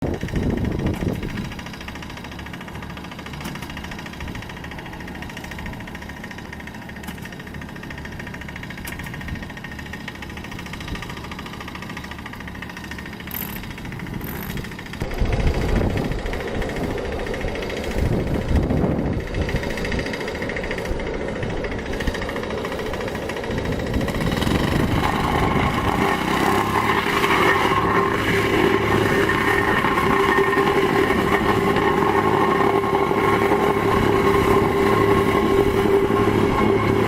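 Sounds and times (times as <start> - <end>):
construction machine engine running: 0.0 - 37.0.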